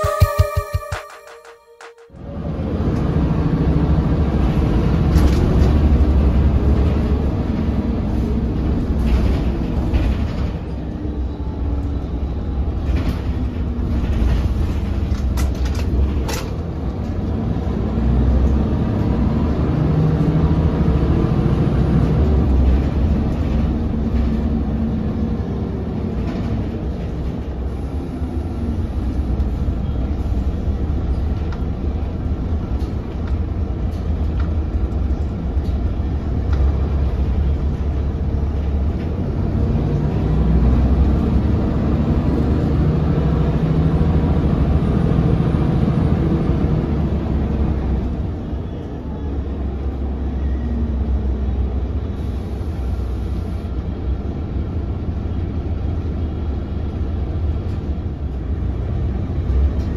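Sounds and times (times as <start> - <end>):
bus diesel engine droning: 0.0 - 1.4, 2.1 - 59.9
rattles and clicks from bus body: 4.3 - 59.9.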